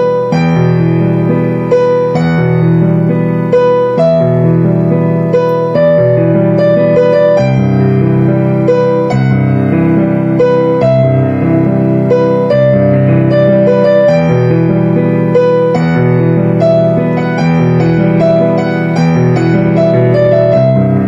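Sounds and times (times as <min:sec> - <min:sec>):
held low piano chords: 0:00.0 - 0:21.0
slow piano melody: 0:00.0 - 0:21.0.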